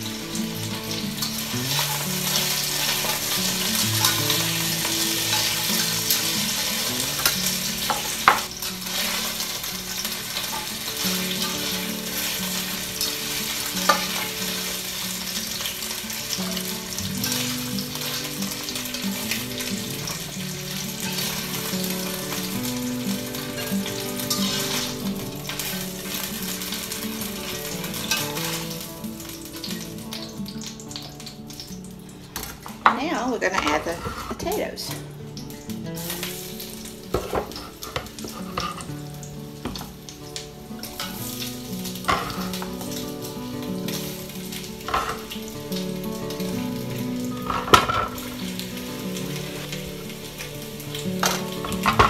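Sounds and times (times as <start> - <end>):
carrots sizzling in hot oil: 0.0 - 52.0.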